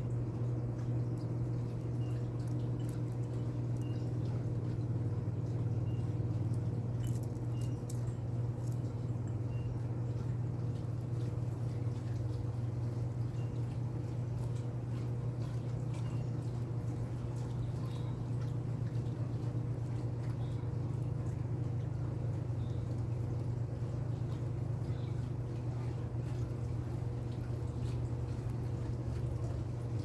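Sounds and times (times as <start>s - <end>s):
low electrical hum: 0.0s - 30.0s
beak clicks and nibbling: 0.5s - 30.0s.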